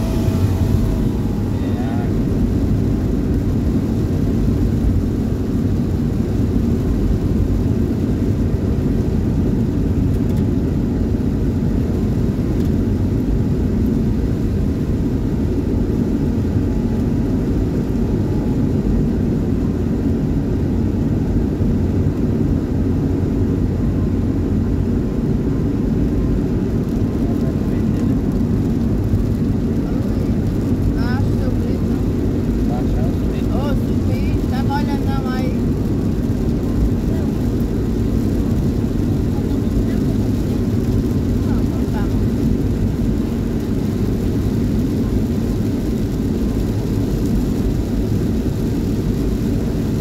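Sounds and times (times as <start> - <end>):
rain on car: 0.0 - 23.0, 25.3 - 50.0
tyres droning on wet road: 0.0 - 50.0.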